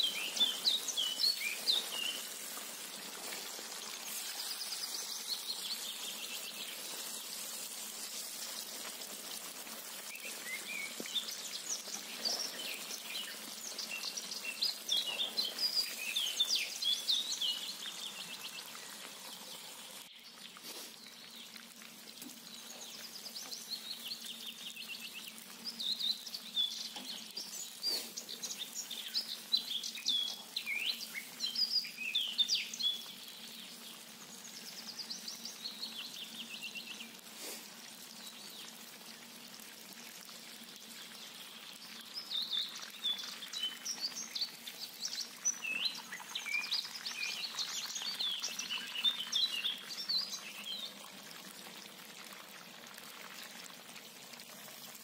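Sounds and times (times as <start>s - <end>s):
small songbirds chirping: 0.0s - 37.3s, 40.9s - 51.1s
oil deep-frying hiss: 0.0s - 55.0s.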